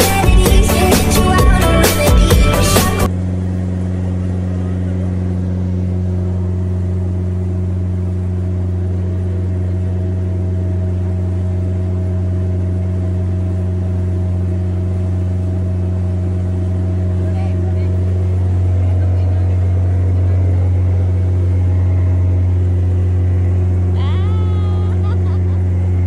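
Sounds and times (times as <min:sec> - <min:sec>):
motorboat engine droning: 0:00.0 - 0:26.0
water rushing along hull: 0:00.0 - 0:26.0.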